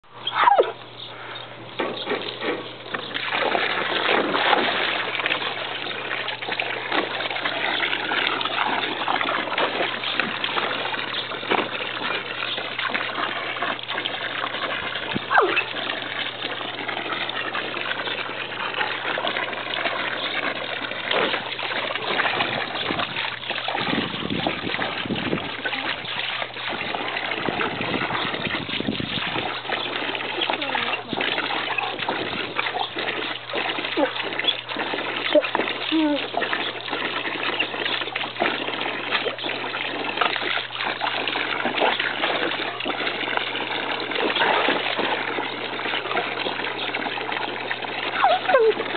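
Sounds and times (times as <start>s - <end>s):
hose water splashing into pool: 0.0s - 48.9s
dog snapping at water: 1.8s - 16.6s, 18.6s - 48.9s.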